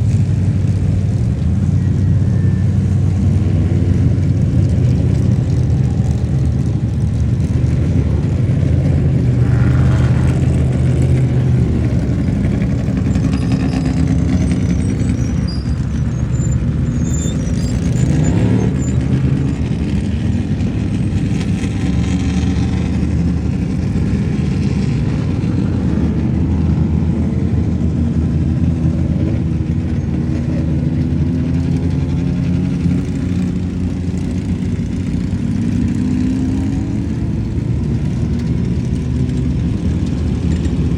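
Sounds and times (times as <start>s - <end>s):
off-road race engines droning: 0.0s - 40.9s.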